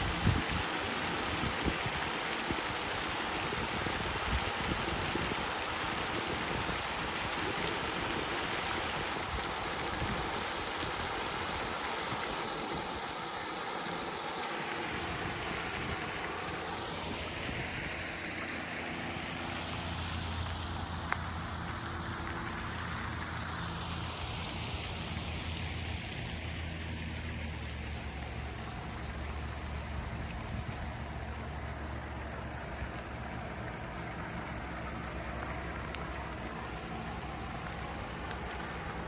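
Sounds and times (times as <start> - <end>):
low engine drone: 0.0 - 39.0.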